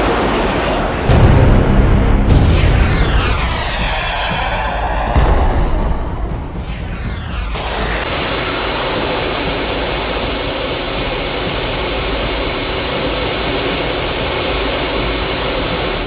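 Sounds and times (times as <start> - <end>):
jet engine roar with high whine: 0.0 - 1.2, 2.3 - 16.0.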